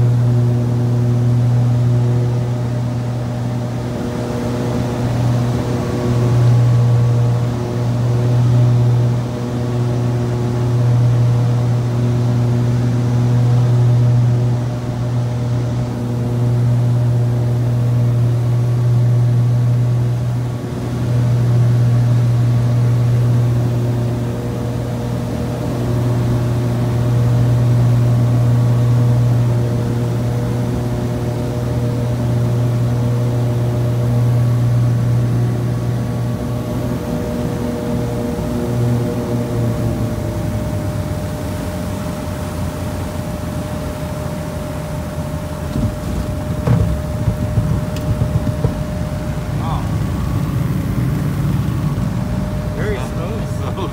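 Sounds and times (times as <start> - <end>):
aircraft engines and propellers droning: 0.0 - 53.9.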